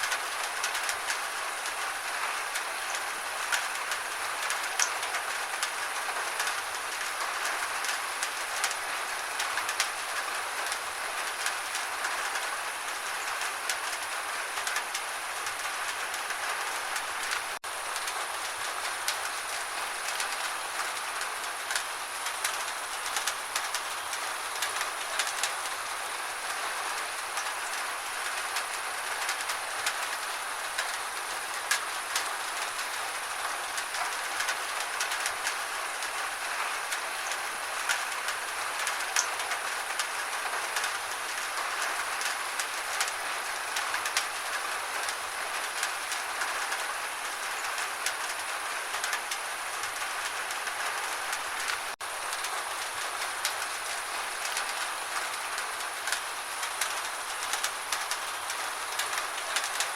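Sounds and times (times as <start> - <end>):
gentle rain: 0.0 - 59.9.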